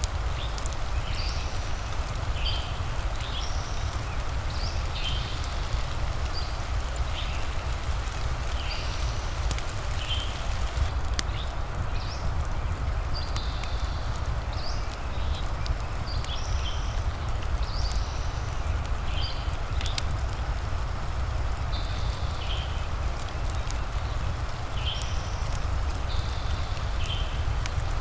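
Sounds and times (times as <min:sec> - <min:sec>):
steady rain: 0:00.0 - 0:28.0
wood fire crackling: 0:00.0 - 0:28.0.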